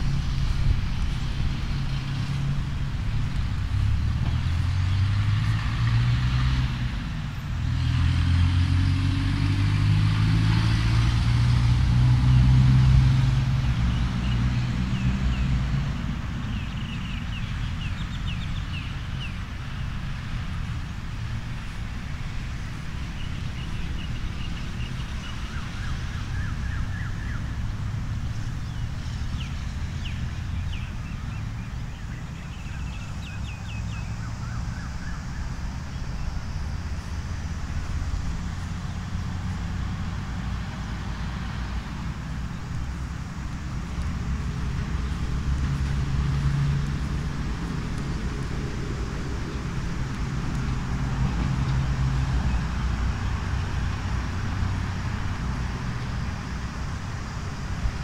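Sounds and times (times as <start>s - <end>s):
low hum of traffic: 0.0s - 58.0s
vehicle passing with low rumble: 0.0s - 58.0s.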